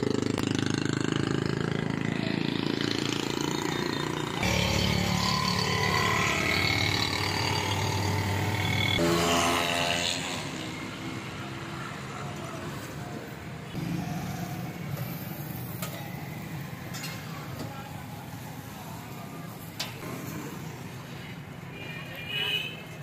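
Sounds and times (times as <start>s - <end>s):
background traffic noise: 0.0s - 23.0s.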